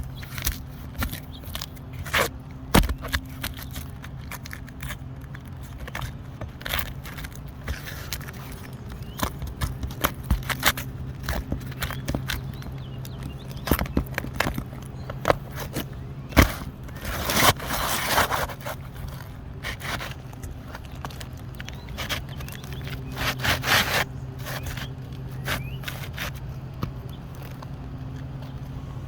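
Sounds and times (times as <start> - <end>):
scraping: 0.0 - 27.7
steady low hum: 0.0 - 29.0.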